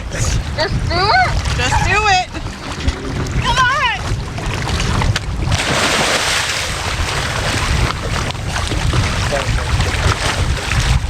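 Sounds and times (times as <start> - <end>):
rushing water: 0.0 - 11.0
wind buffeting microphone: 0.0 - 11.0.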